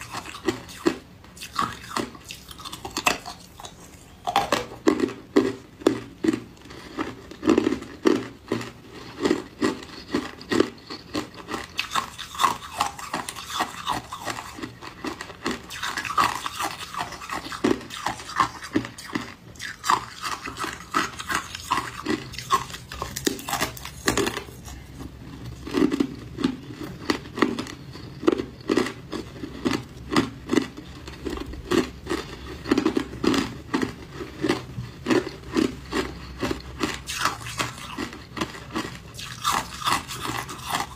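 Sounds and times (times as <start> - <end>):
crunching ice: 0.0 - 40.9.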